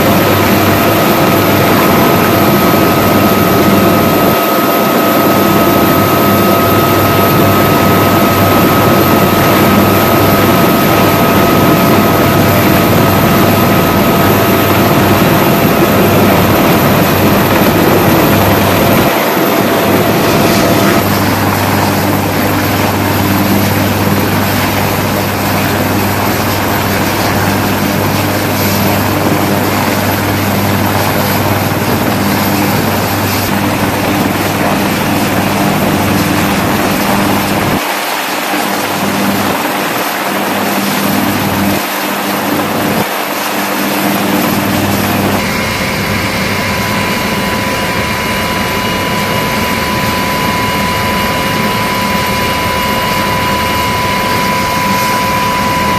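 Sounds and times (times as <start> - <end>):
helicopter engines and rotors: 0.0 - 55.9
high whine: 0.0 - 55.9.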